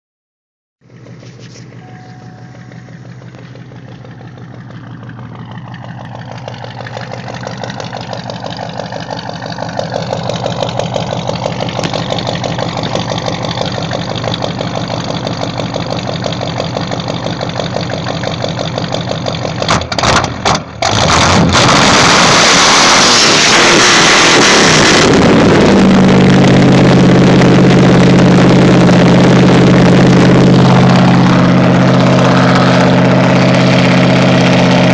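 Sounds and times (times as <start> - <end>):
car exhaust low rumble: 0.8 - 20.0, 24.5 - 34.9.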